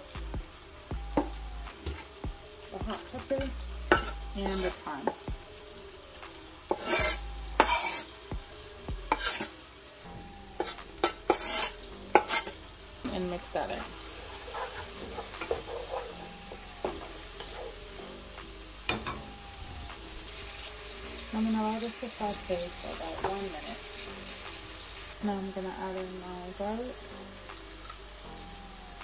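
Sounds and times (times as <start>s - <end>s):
stirring against the pan: 0.0s - 25.9s
vegetables sizzling in hot oil: 0.0s - 29.0s.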